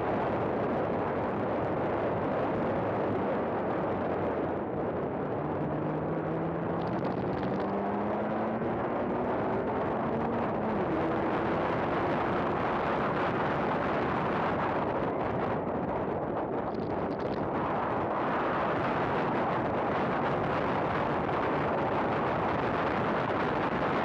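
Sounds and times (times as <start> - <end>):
wind rush on microphone: 0.0 - 24.0.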